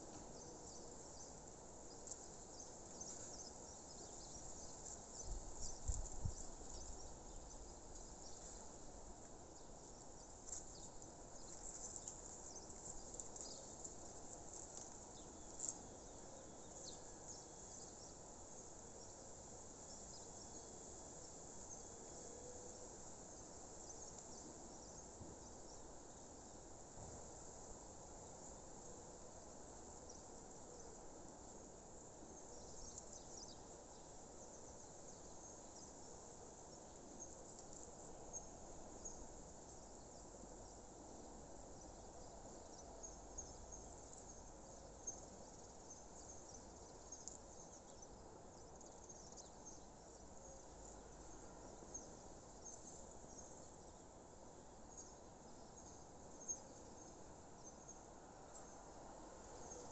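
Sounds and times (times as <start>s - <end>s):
steady low hiss: 0.0s - 59.9s.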